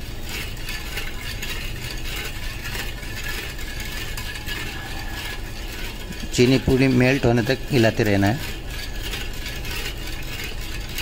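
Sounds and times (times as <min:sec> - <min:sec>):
spatula scraping sugar in pan: 0:00.0 - 0:11.0.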